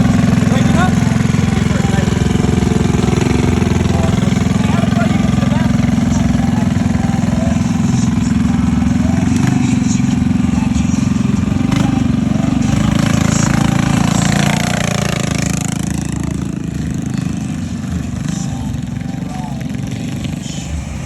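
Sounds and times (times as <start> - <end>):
minibike engine running: 0.0 - 21.0.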